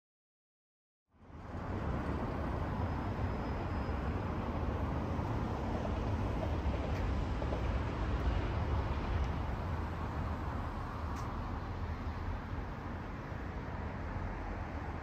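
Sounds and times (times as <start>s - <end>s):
low outdoor background rumble: 1.1s - 15.0s.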